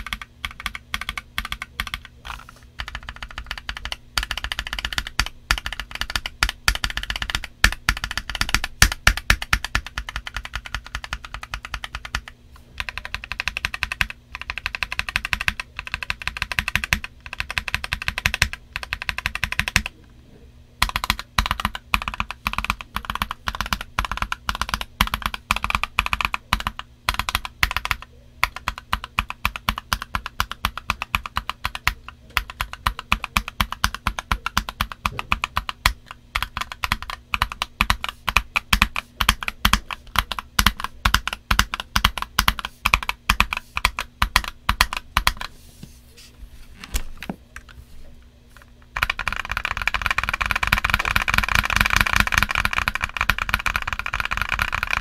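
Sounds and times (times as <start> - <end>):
mechanical keyboard typing: 0.0 - 20.0, 20.8 - 45.5, 48.8 - 55.0.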